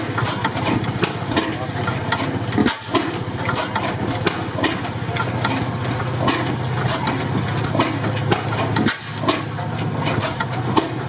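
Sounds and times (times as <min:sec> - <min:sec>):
stationary engine running: 0:00.0 - 0:11.0.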